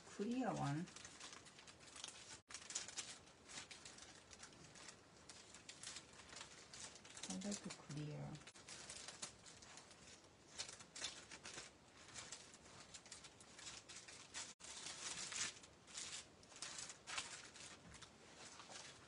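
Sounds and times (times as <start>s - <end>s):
plastic packets rustling: 0.1s - 19.0s.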